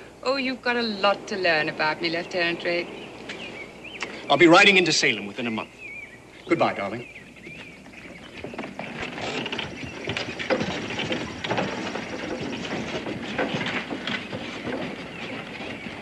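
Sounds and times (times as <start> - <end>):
hooves and wooden wheels clattering: 0.0 - 16.0.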